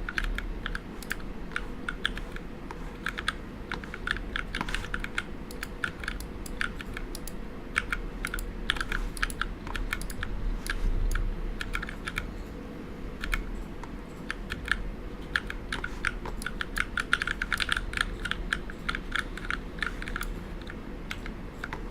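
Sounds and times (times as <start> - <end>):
mechanical keyboard typing: 0.0 - 12.3, 13.2 - 13.5, 14.1 - 21.9.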